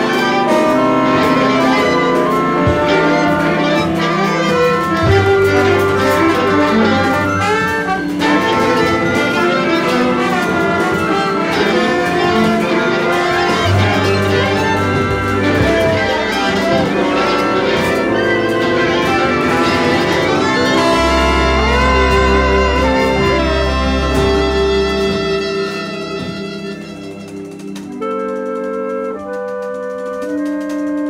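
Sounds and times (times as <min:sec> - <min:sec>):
jazz orchestra playing: 0:00.0 - 0:31.0.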